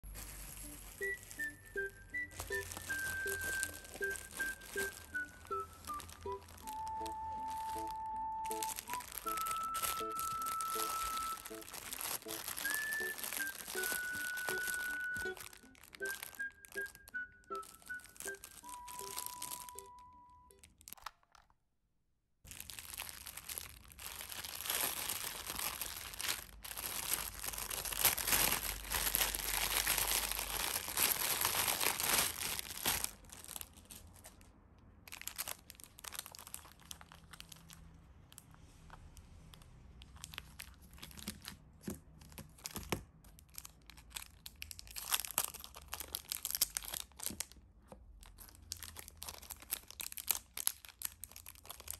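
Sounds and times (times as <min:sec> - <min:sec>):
plastic packaging crinkling and tearing: 0:00.0 - 0:21.4, 0:22.5 - 0:51.9.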